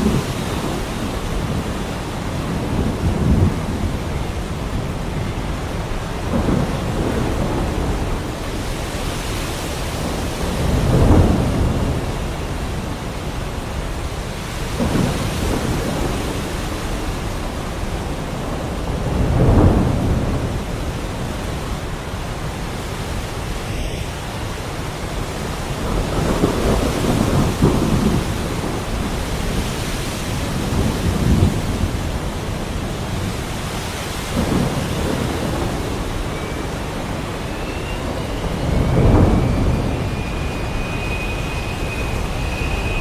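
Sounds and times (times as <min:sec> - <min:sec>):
heavy rain: 0:00.0 - 0:43.0
thunder rumbling: 0:00.0 - 0:43.0.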